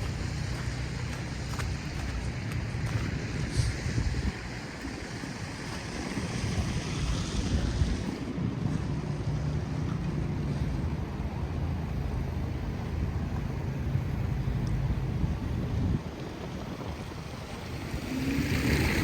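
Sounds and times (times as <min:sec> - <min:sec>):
distant city traffic: 0:00.0 - 0:19.0
wind buffeting microphone: 0:00.0 - 0:19.0.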